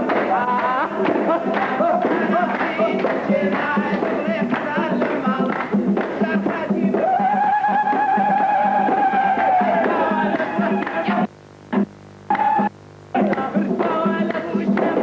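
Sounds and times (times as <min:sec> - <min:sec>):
folk dance music: 0:00.0 - 0:15.0.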